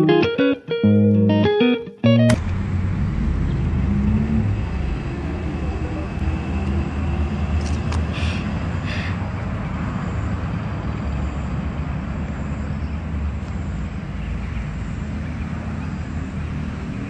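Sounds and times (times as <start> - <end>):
low outdoor rumble: 2.3 - 17.0.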